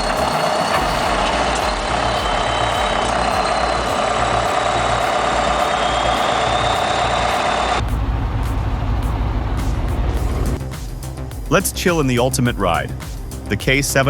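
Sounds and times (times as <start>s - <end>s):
bulldozer diesel engine running: 0.0s - 11.5s.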